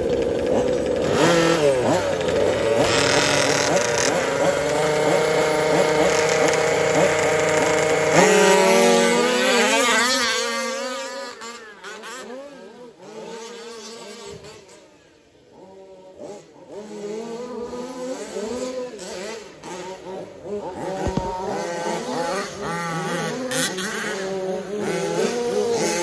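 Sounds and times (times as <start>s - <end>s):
rc truck motors revving: 0.0s - 26.0s.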